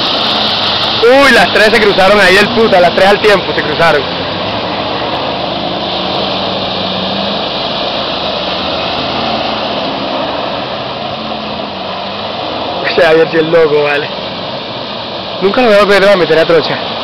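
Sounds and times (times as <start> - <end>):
continuous rushing noise: 0.0 - 17.0
suv engines running: 0.0 - 17.0.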